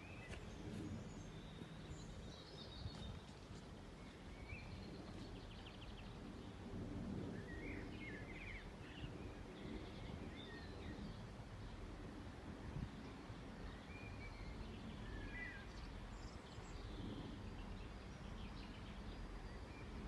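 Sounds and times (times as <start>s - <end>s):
songbirds chirping and trilling: 0.0s - 20.0s.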